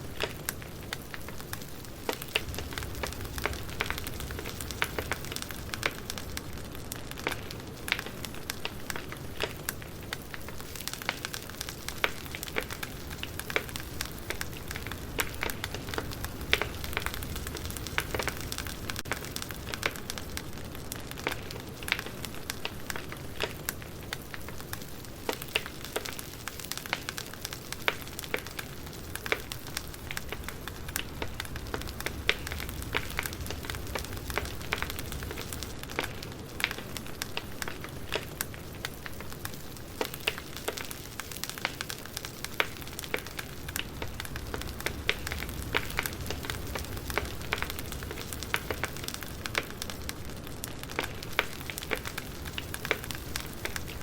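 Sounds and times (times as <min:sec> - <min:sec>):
firewood crackling: 0:00.0 - 0:54.0.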